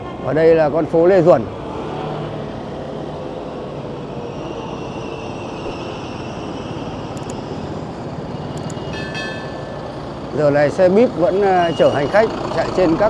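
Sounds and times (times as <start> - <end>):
bus engine running: 0.0 - 13.0
motorbike and road traffic: 0.0 - 13.0.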